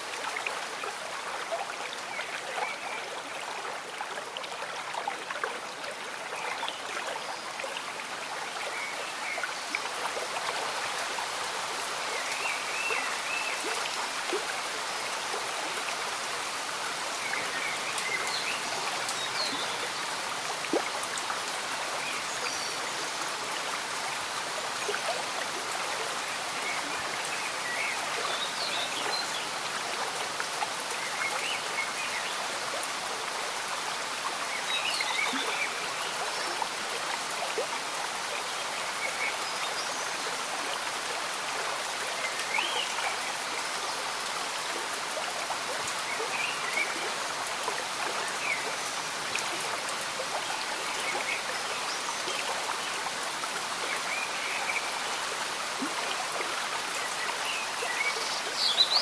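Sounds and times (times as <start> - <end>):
falling rain: 0.0 - 59.0.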